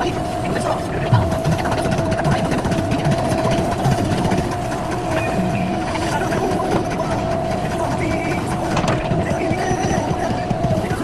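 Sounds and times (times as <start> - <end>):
heavy diesel engine clattering: 0.0 - 11.0
steady whine: 0.0 - 11.0.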